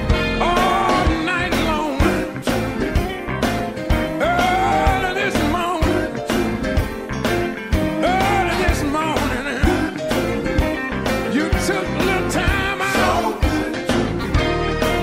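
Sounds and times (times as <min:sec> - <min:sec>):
gospel music with band and drums: 0:00.0 - 0:15.0
person singing: 0:00.2 - 0:03.1, 0:04.0 - 0:06.9, 0:07.9 - 0:14.2.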